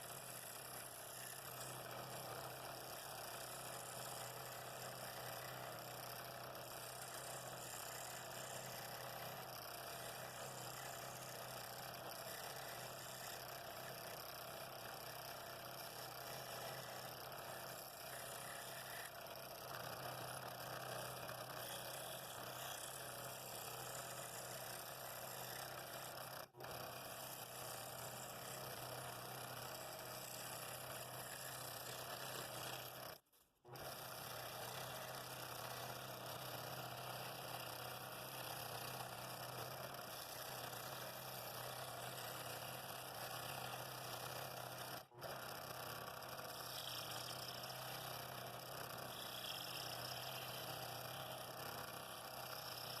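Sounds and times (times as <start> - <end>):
scroll saw cutting wood: 0.0 - 53.0.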